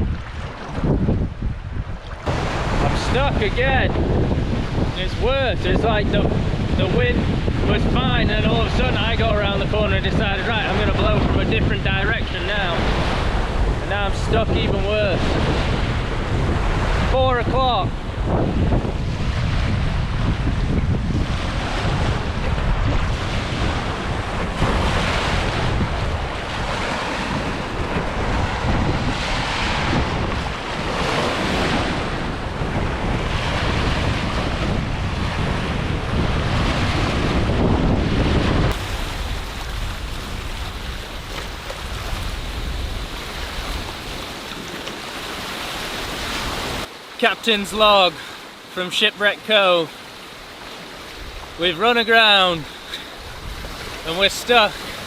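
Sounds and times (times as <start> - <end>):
wind buffeting microphone: 0.0 - 46.9, 50.1 - 51.6, 52.3 - 55.0
waves washing on rocky shore: 2.2 - 55.0.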